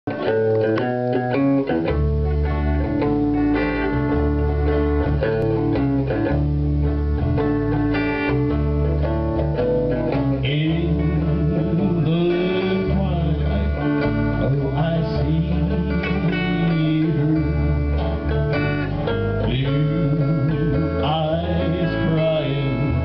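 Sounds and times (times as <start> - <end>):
second guitar: 0.0 - 23.0
acoustic guitar strumming: 0.1 - 23.0
electric bass line: 0.1 - 23.0.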